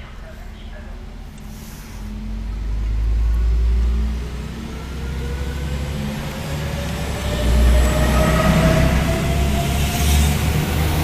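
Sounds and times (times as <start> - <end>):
diesel railbus engine accelerating: 0.0 - 11.0.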